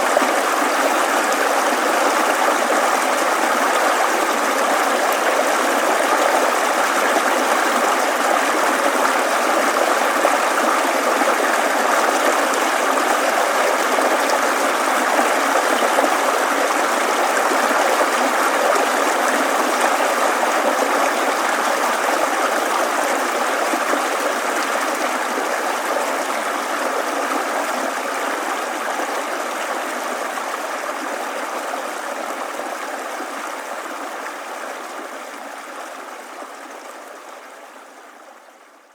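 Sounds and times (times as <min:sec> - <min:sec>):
stream babbling over stones: 0:00.0 - 0:38.0.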